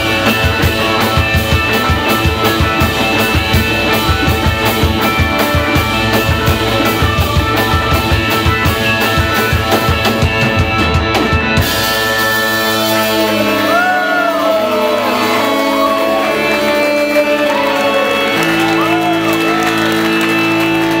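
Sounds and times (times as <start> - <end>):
bending guitar notes: 0.0 - 21.0
electric guitars and keyboard chords: 0.0 - 21.0
rock drums: 0.0 - 21.0.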